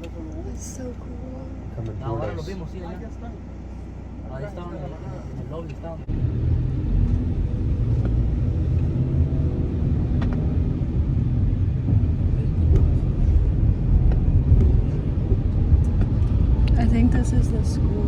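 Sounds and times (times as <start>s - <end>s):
vehicle rumble inside cabin: 0.0s - 18.0s.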